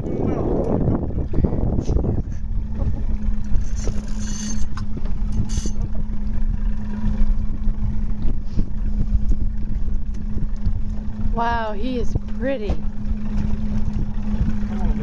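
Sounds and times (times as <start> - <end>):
boat engine humming: 0.0 - 15.0
rumbling wind: 0.0 - 15.0
water noise: 0.0 - 15.0.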